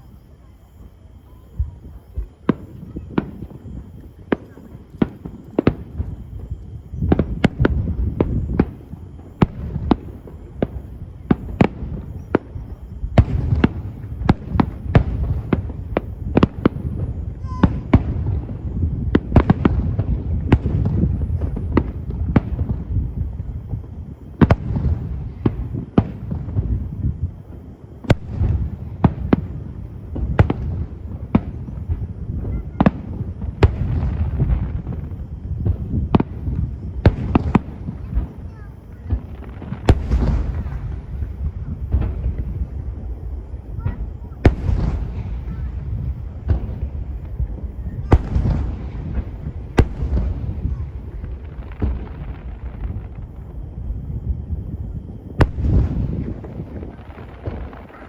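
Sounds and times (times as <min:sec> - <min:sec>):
fireworks bursting with sharp bangs: 0:00.0 - 0:58.0
low rumble of echoing booms: 0:00.1 - 0:58.0.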